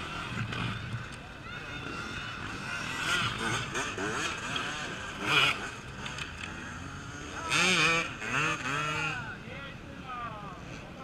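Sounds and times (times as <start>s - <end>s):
motorcycles revving: 0.0s - 11.0s.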